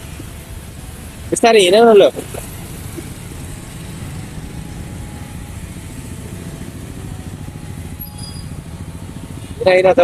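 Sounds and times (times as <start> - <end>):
motorcycle engine rumble: 0.0 - 10.0
road noise: 0.0 - 10.0.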